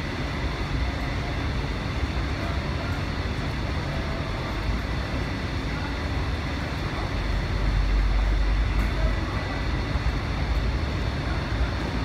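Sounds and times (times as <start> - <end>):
station machinery: 0.0 - 12.0.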